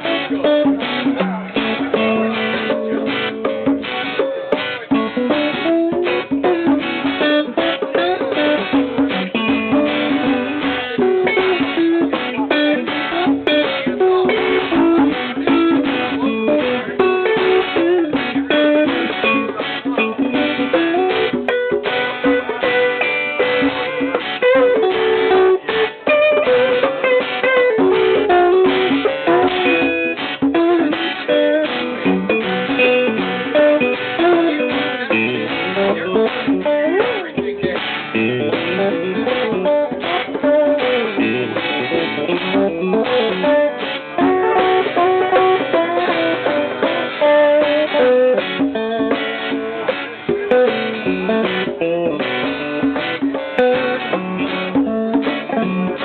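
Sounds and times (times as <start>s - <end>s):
guitar picking a melody: 0.0s - 56.0s
reggae band playing: 0.0s - 56.0s.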